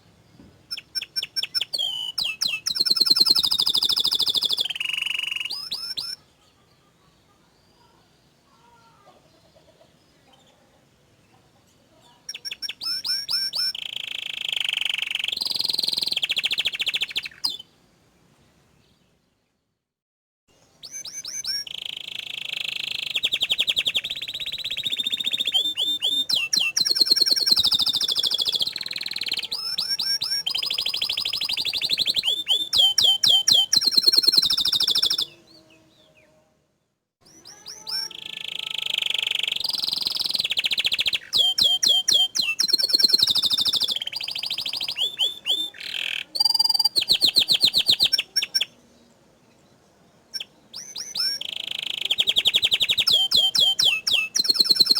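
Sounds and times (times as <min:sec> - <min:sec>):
canary singing trills: 0:00.7 - 0:10.8, 0:11.9 - 0:17.7, 0:20.8 - 0:36.4, 0:37.2 - 0:54.9.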